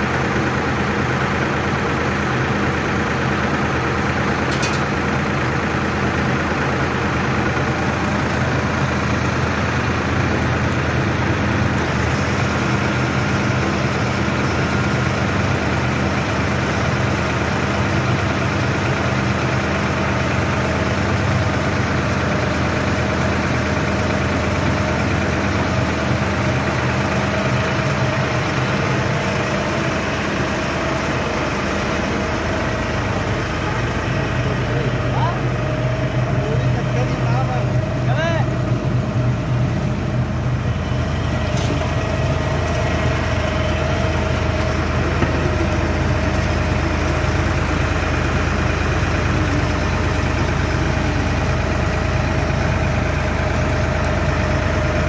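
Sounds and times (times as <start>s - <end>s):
baler machinery drone: 0.0s - 55.0s
low machinery hum: 0.0s - 55.0s.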